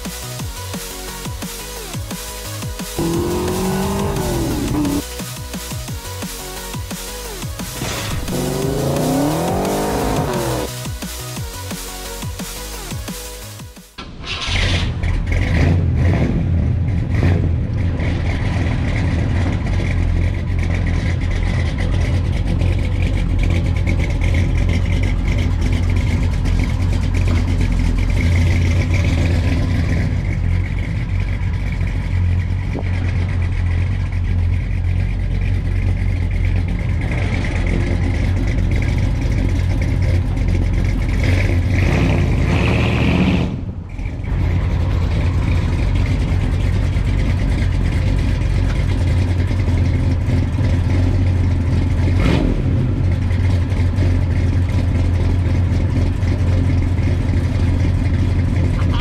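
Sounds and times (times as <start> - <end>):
loud truck engine rumbling: 2.4 - 10.9, 14.0 - 59.0.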